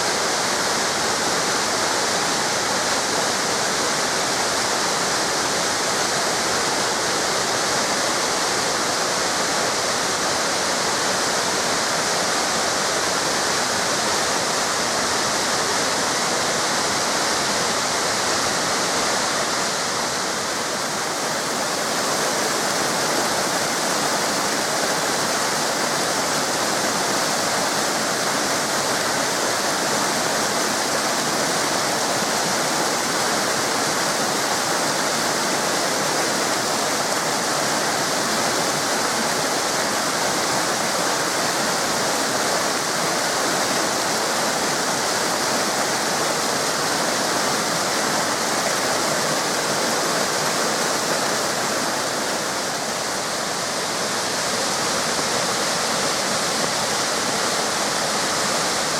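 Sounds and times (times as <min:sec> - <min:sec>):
waterfall roaring: 0:00.0 - 0:58.9.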